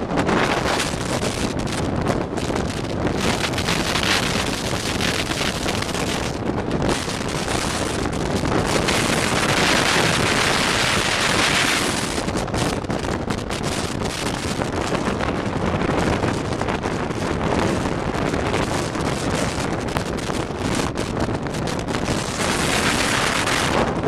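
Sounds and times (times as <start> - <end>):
road noise: 0.0 - 24.0
wind rushing over microphone: 0.0 - 24.0.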